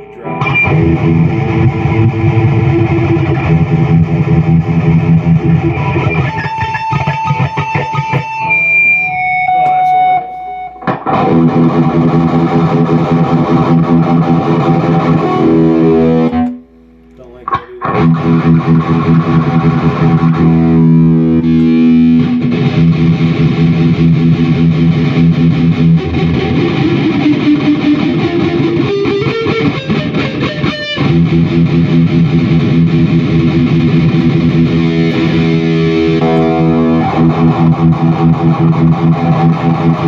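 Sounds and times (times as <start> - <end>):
distorted electric guitar chords: 0.0 - 40.0.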